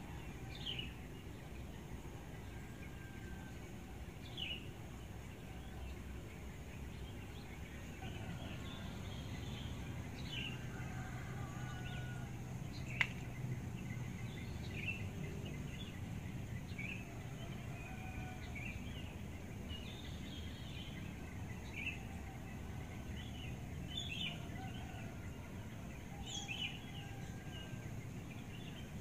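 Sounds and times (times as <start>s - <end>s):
songbird chirping: 0.0s - 29.0s.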